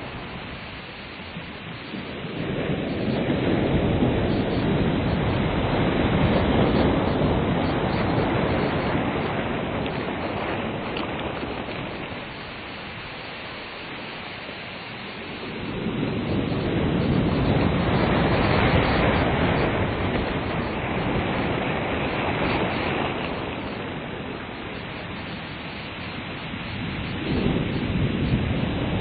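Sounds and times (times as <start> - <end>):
ocean waves breaking on beach: 0.0 - 29.0.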